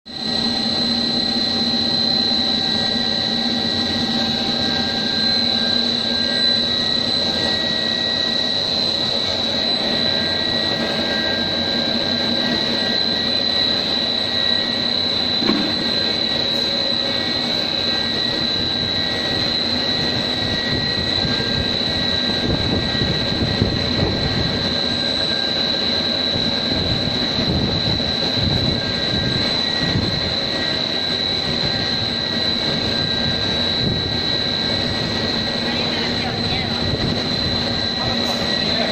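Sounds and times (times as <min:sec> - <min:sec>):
machine drone with high whine: 0:00.0 - 0:38.9.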